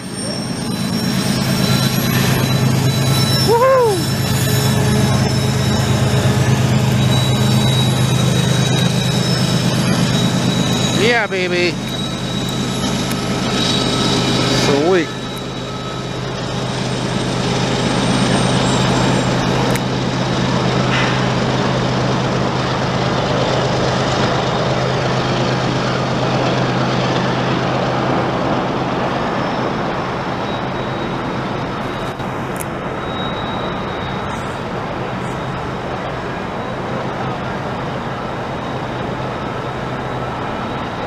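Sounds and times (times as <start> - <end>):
diesel locomotive engine hum: 0.0 - 41.0
train cars rolling on rails: 0.0 - 41.0.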